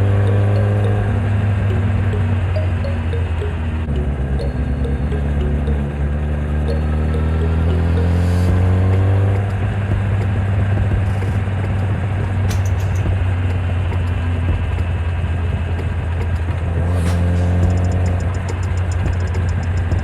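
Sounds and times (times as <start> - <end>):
motorcycle engine while riding: 3.8 - 20.0.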